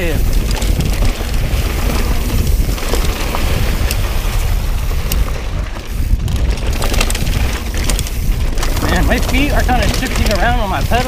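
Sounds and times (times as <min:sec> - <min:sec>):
bike clicks and rattles: 0:00.0 - 0:11.0
bike tyre noise on dirt: 0:00.0 - 0:11.0
wind buffeting microphone: 0:00.0 - 0:11.0.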